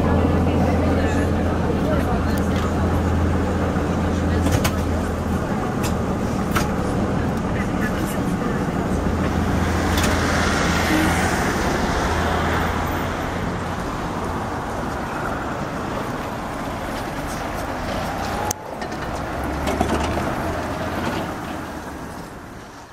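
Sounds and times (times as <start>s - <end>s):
street traffic: 0.0s - 22.9s
trolleybus passing: 0.0s - 22.9s.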